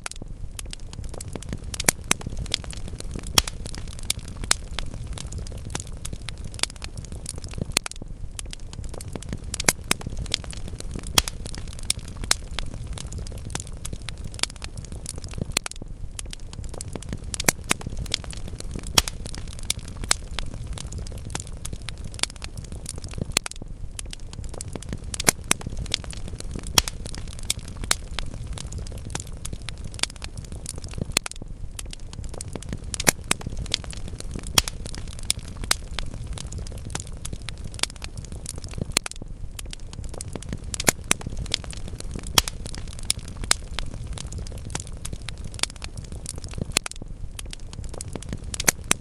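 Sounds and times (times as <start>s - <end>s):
low rumble of flame: 0.0s - 49.0s
wood fire crackling: 0.0s - 49.0s.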